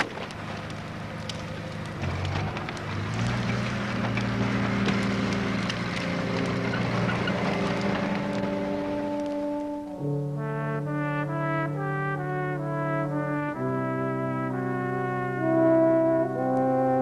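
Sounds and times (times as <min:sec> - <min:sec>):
bonfire crackling and popping: 0:00.0 - 0:13.9, 0:14.5 - 0:17.0
diesel engine drone: 0:00.0 - 0:16.9.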